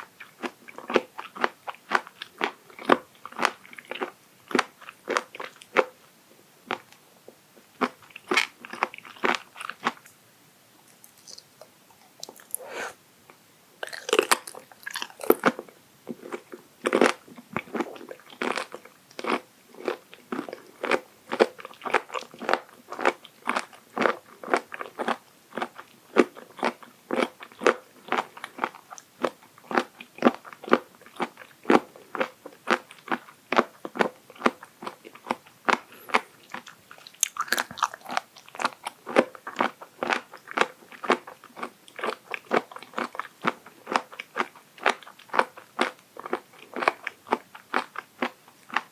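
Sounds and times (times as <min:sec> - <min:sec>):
crunchy chewing: 0:00.2 - 0:05.9, 0:07.8 - 0:10.1, 0:10.8 - 0:13.0, 0:13.8 - 0:48.9.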